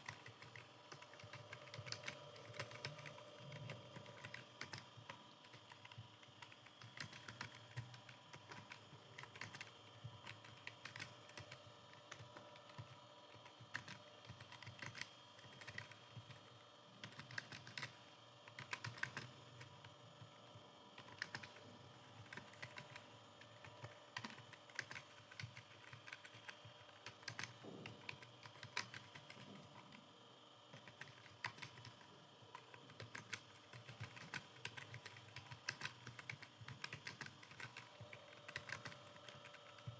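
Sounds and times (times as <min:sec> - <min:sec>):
keyboard typing clicks: 0:00.0 - 0:16.4, 0:17.0 - 0:19.9, 0:21.0 - 0:21.6, 0:22.2 - 0:30.0, 0:30.7 - 0:39.9.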